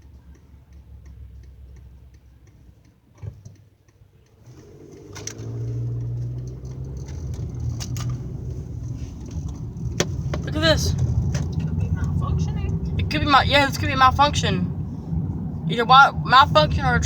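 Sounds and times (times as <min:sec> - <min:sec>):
car engine hum: 0:00.0 - 0:17.0
turn signal ticking: 0:00.0 - 0:17.0.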